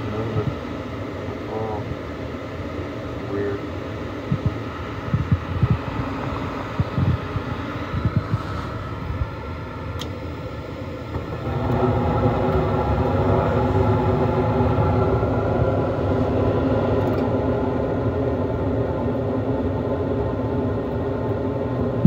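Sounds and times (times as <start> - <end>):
furnace motor humming: 0.0 - 22.0
furnace burners lighting: 4.2 - 22.0.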